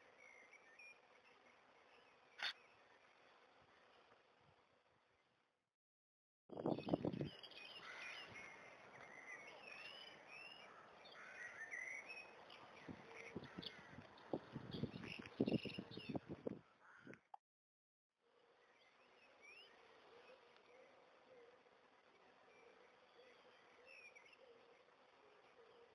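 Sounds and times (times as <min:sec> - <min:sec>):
small birds singing: 0:00.0 - 0:03.5, 0:06.6 - 0:17.2, 0:18.5 - 0:25.9.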